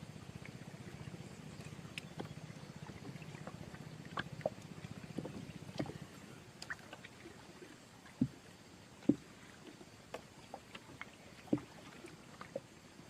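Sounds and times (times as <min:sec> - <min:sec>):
low steady hum: 0:00.0 - 0:13.0
river water: 0:00.0 - 0:13.0.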